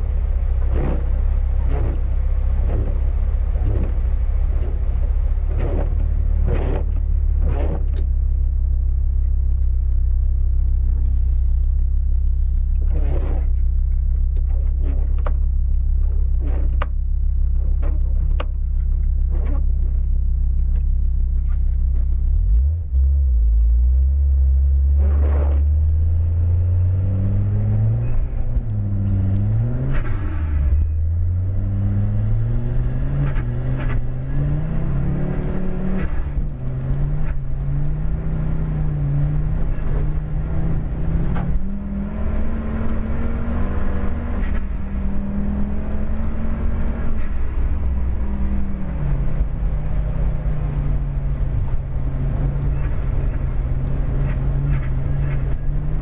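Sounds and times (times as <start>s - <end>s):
car engine revving: 0.0s - 56.0s
low road rumble: 0.0s - 56.0s.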